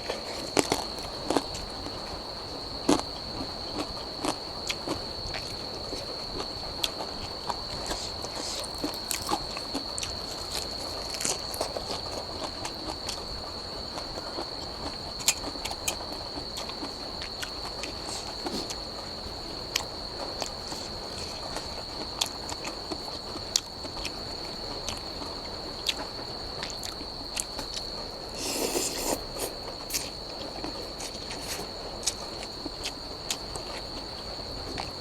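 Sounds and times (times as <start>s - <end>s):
person chewing noodles: 0.0s - 2.0s, 2.8s - 13.2s, 13.8s - 35.0s
high insect drone: 0.0s - 35.0s.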